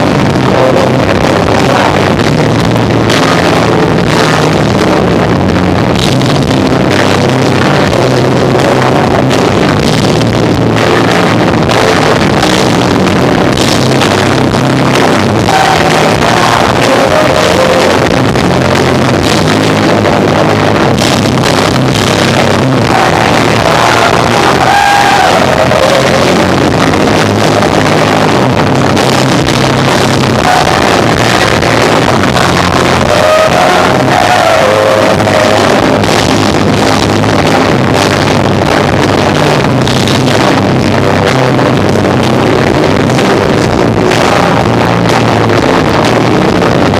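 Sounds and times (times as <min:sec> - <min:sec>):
distorted live rock band: 0:00.0 - 0:46.9.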